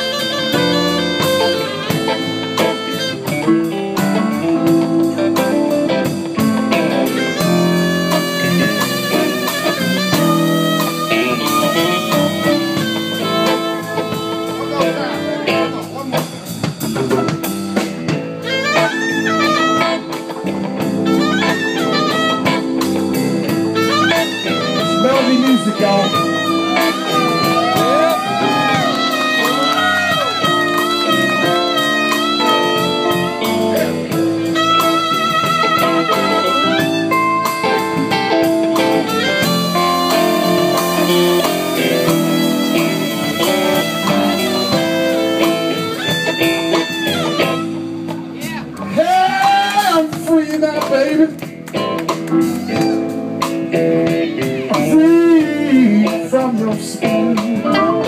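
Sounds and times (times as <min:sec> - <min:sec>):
harmonica solo: 0:00.0 - 0:16.1, 0:18.1 - 0:48.6
drums: 0:00.0 - 0:58.0
electric guitar: 0:00.0 - 0:58.0.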